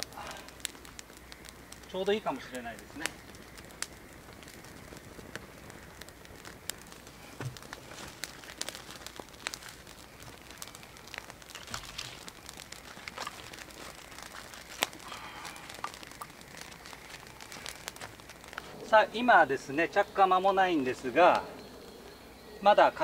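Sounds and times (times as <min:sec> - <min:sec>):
wood knocking onto fire: 0:00.0 - 0:18.8
campfire crackling and popping: 0:00.0 - 0:23.0.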